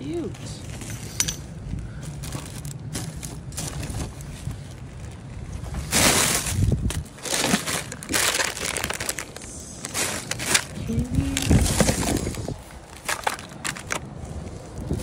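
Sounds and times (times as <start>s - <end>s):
plastic bag crinkling: 2.1s - 15.0s.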